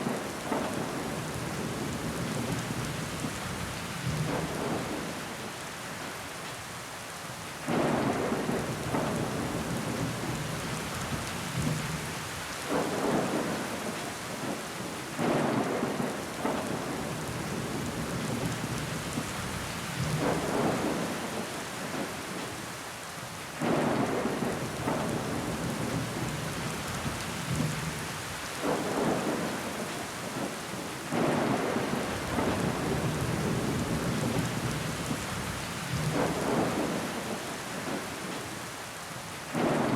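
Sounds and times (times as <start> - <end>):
rain against window glass: 0.0 - 6.6, 7.6 - 22.8, 23.5 - 39.9.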